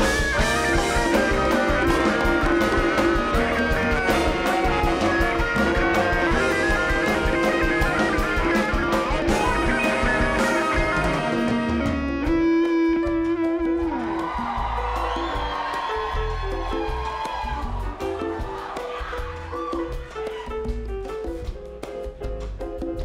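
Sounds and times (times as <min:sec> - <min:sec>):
drum kit: 0:00.0 - 0:23.0
electric guitar lead: 0:00.0 - 0:23.0
live rock band playing: 0:00.0 - 0:23.0.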